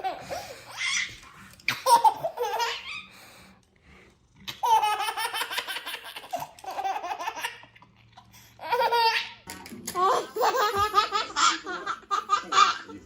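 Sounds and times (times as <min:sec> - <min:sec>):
baby laughing: 0:00.0 - 0:03.1, 0:04.5 - 0:07.8, 0:08.6 - 0:13.0.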